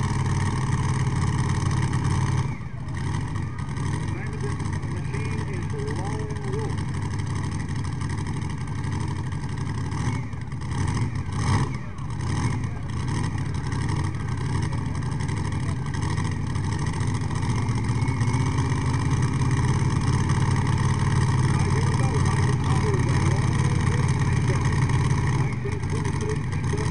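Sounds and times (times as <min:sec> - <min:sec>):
tractor engine running hard: 0:00.0 - 0:26.9.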